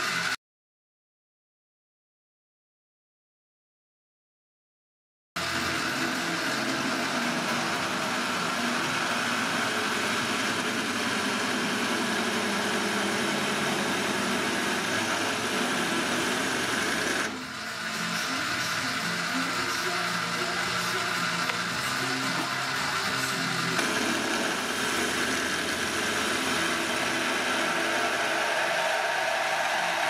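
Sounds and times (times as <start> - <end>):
lathe drilling into metal: 5.4 - 30.0.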